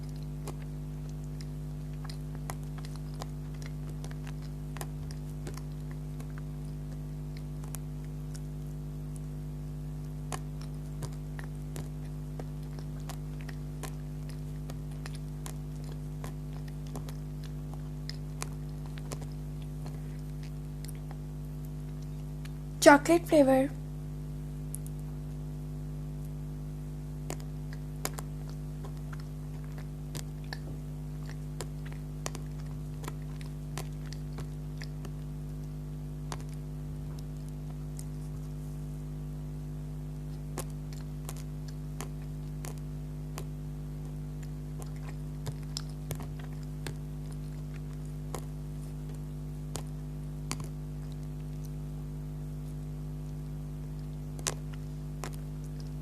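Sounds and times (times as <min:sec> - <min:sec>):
chewing with mouth clicks: 0:00.0 - 0:22.8, 0:24.6 - 0:25.6, 0:26.2 - 0:56.0
electrical hum: 0:00.0 - 0:56.0.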